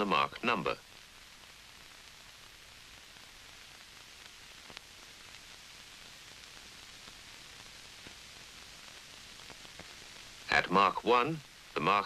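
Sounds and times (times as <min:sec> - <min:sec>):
old film soundtrack hiss: 0:00.0 - 0:12.0.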